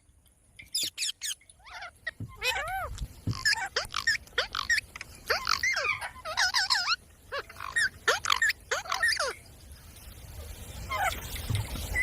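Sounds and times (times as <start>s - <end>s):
parrot squawking and chirping: 0.6s - 9.4s, 10.8s - 12.0s.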